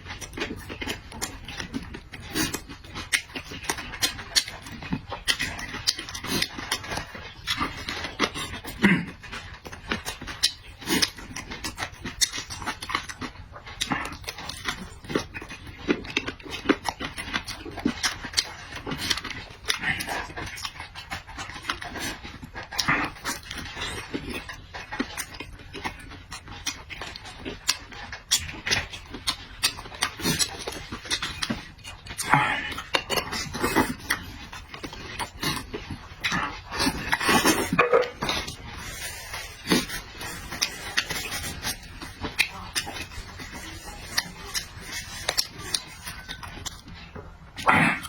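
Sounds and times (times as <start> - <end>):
person chewing noisily: 0.0 - 48.0.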